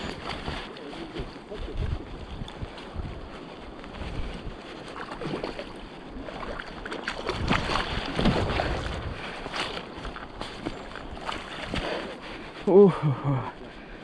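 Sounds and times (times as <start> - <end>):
rushing mountain stream: 0.0 - 13.6.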